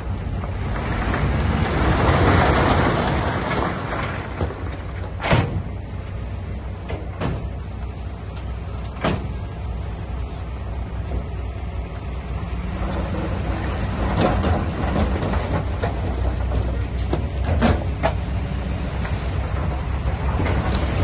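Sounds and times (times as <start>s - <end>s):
diesel machinery engine rumble: 0.0s - 21.0s.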